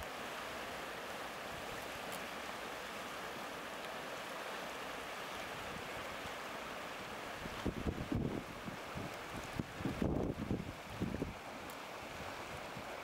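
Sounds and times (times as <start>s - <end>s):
fast river rushing: 0.0s - 13.0s.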